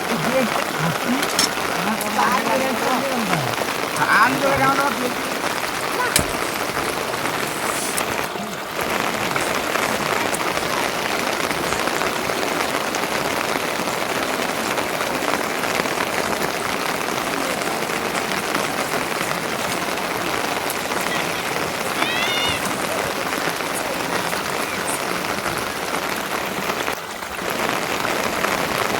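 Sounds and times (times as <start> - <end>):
dense rain pattering: 0.0 - 28.9.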